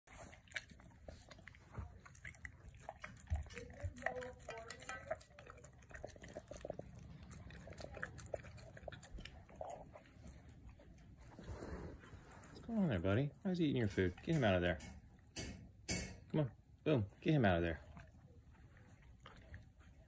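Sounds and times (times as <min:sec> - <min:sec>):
animals chewing wet food: 0:00.0 - 0:20.0.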